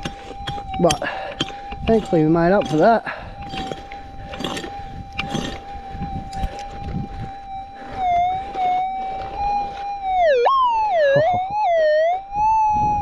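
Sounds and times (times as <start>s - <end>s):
metal detector warbling tone: 0.0s - 13.0s.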